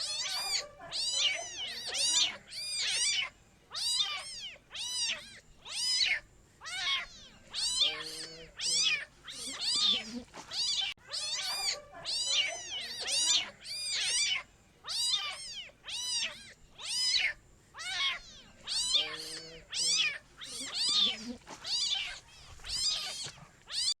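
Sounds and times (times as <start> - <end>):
kitten meowing: 0.0 - 24.0.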